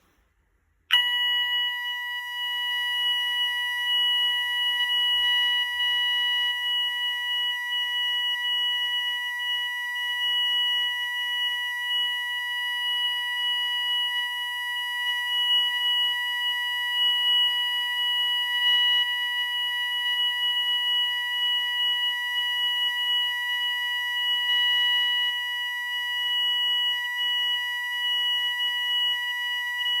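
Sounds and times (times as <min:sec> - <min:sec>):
fire alarm steady high tone: 0:00.9 - 0:30.0.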